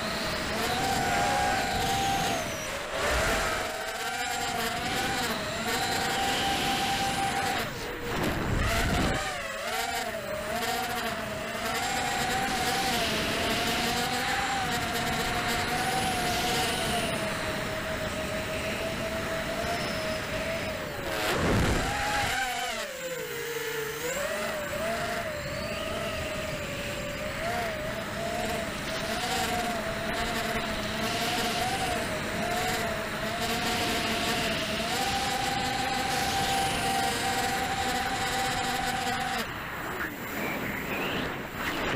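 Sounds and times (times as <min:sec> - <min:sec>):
quadcopter propellers whining: 0:00.0 - 0:41.9.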